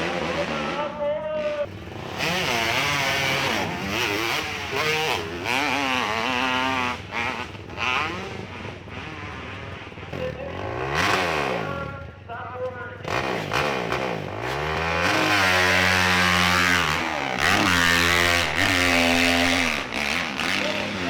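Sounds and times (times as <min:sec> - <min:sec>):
motorcycle engine revving hard: 0:00.0 - 0:12.1, 0:13.0 - 0:21.0.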